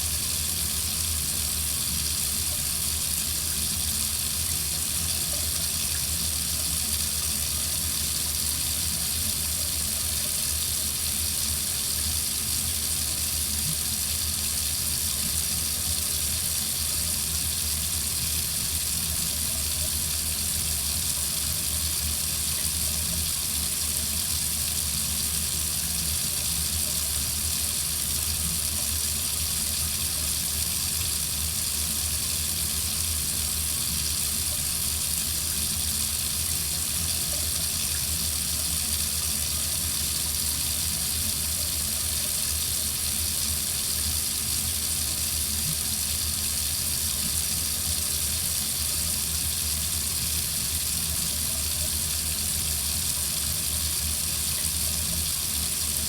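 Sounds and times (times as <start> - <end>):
water running from faucet: 0.0 - 56.0.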